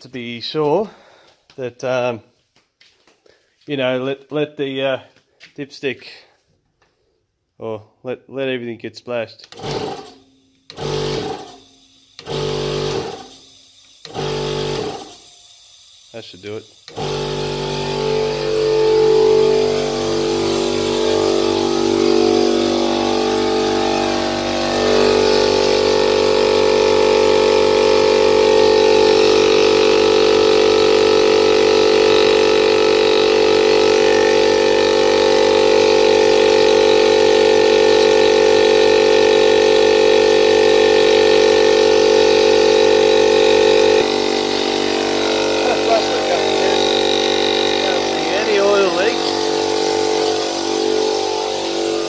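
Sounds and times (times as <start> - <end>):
air compressor running: 0.7 - 1.4, 9.4 - 52.0.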